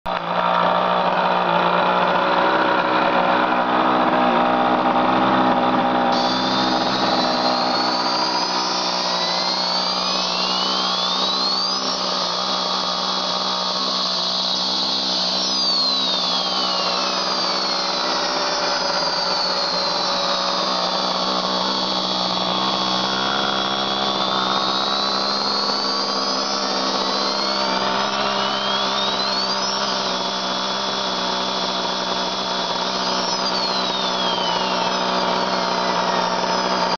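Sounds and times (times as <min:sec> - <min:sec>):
synthetic turbine whine: 0:00.1 - 0:36.9
high sweeping tones: 0:05.9 - 0:36.9.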